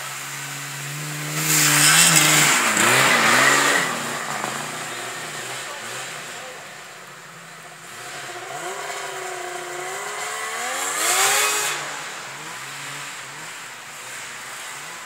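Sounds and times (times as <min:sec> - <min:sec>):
snowmobile engine passing by: 0:00.0 - 0:15.0.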